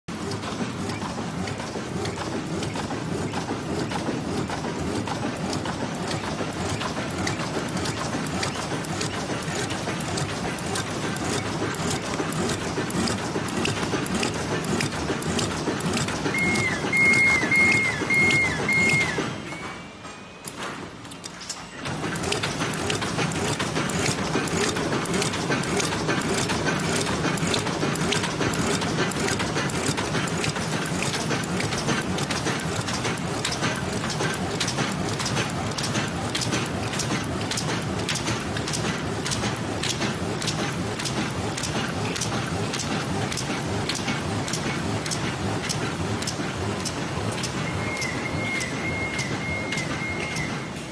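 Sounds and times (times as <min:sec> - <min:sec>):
machine rumbling hum: 0:00.1 - 0:19.9, 0:20.5 - 0:50.9
machine mechanical clicks: 0:00.1 - 0:50.9.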